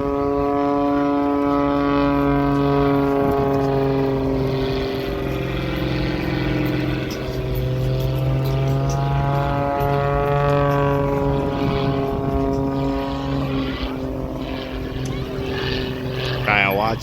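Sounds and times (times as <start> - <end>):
propeller plane engine droning: 0.0 - 17.0
steady low hum: 0.0 - 17.0.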